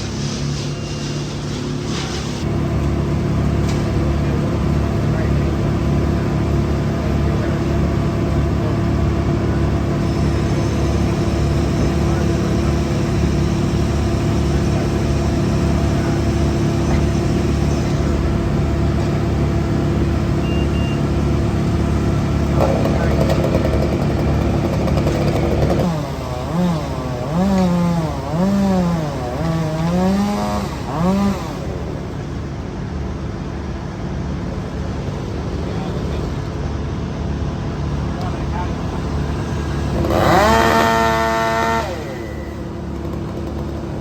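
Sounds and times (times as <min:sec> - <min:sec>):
heavy machinery engines running: 0:00.0 - 0:44.0.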